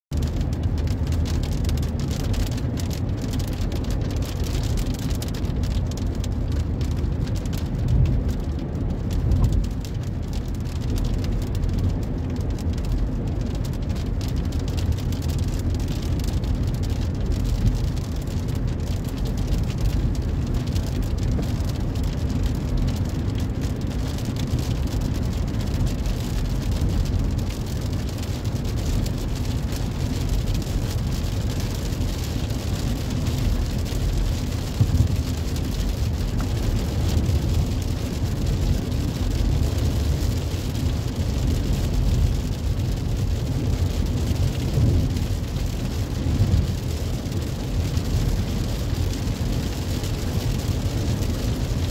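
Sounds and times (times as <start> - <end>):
engine and tyre rumble: 0.1 - 51.9
rain on car windshield: 0.1 - 51.9.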